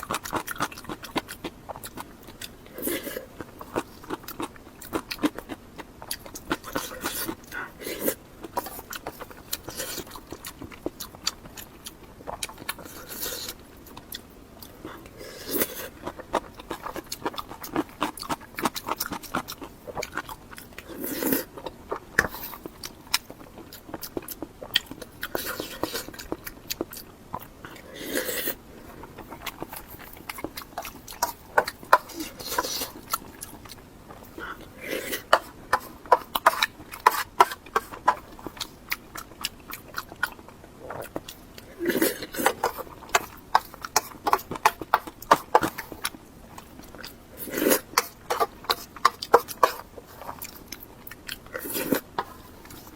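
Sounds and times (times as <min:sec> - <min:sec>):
biting and chewing: 0:00.0 - 0:52.9.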